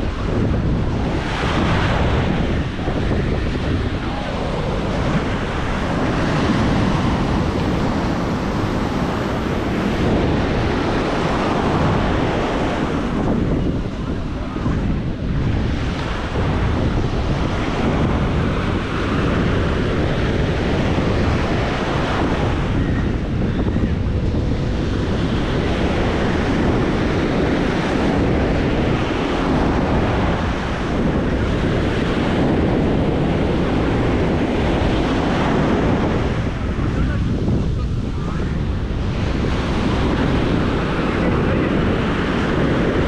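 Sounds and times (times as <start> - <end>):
waves washing onto beach: 0.0 - 43.0
wind buffeting microphone: 0.0 - 43.0.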